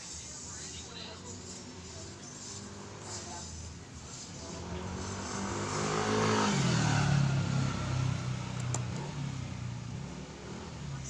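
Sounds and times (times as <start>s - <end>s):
passing vehicle engine: 0.4s - 11.0s.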